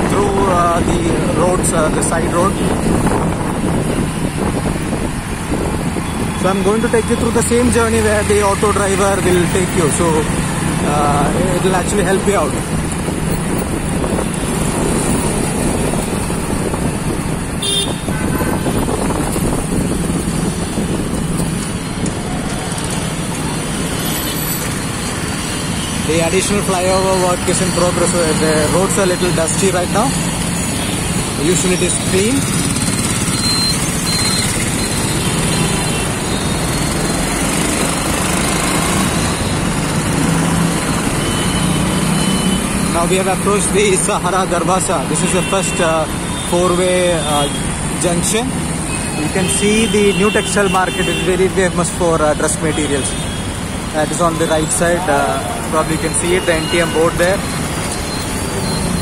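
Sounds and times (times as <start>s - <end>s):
auto-rickshaw engine drone: 0.0s - 59.0s
road and traffic noise: 0.0s - 59.0s.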